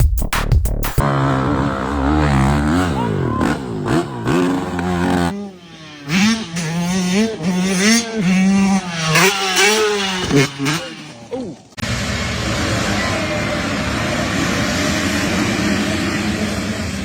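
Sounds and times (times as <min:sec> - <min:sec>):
dirt bike engines revving: 0:01.0 - 0:17.0.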